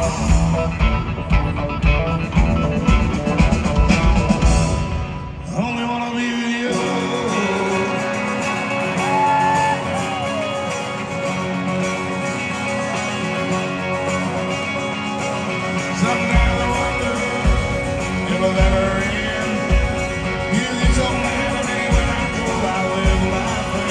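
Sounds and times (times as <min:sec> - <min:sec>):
guitars playing: 0:00.0 - 0:05.5, 0:06.6 - 0:23.9
bass and drums: 0:00.0 - 0:06.0, 0:06.7 - 0:23.9.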